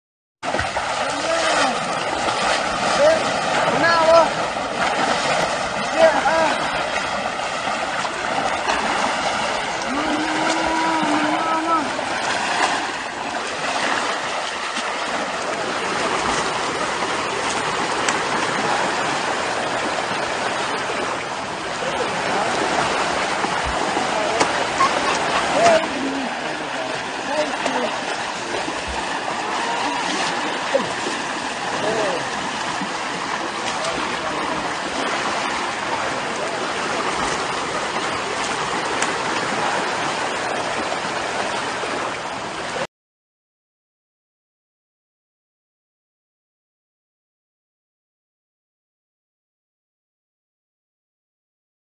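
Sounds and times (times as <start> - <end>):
river water rushing: 0.4 - 42.8.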